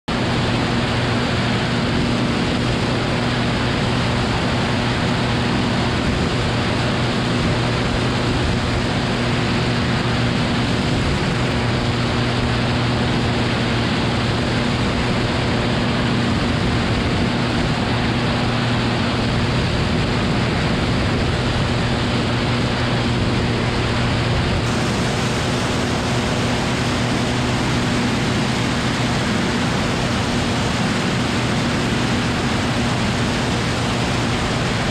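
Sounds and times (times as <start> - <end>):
propeller plane engine droning: 0.0 - 34.9
wind rush: 0.1 - 34.9.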